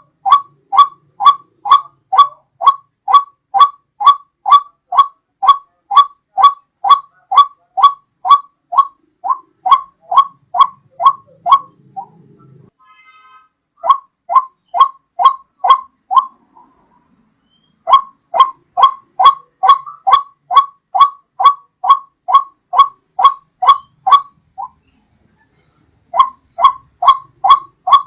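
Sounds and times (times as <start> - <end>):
waterhen calling: 0.0 - 12.7, 13.8 - 16.8, 17.5 - 24.9, 26.1 - 28.0.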